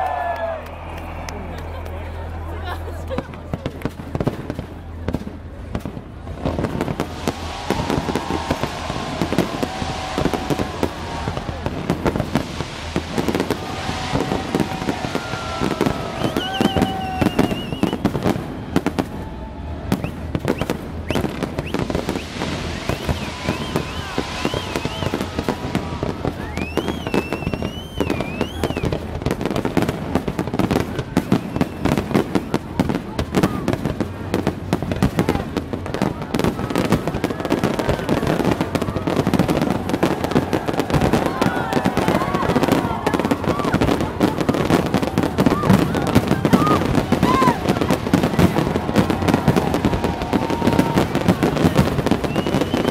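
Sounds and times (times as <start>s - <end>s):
fireworks bangs and crackling: 2.6s - 52.9s.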